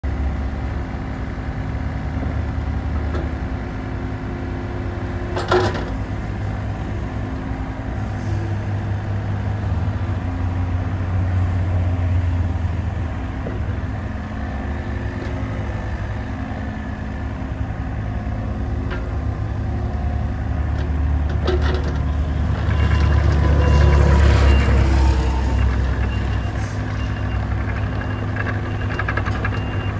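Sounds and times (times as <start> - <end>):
excavator diesel engine running: 0.1 - 29.9.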